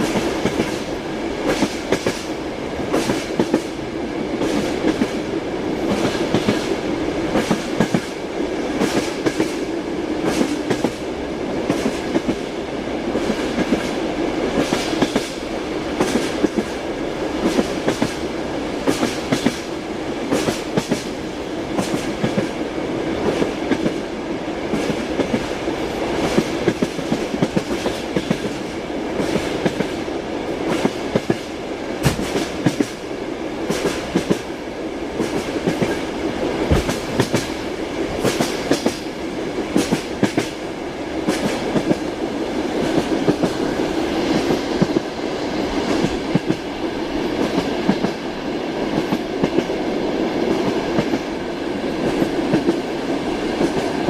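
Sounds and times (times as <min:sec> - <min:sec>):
train running rumble: 0:00.0 - 0:54.0
train wheels clickety-clacking: 0:00.0 - 0:54.0.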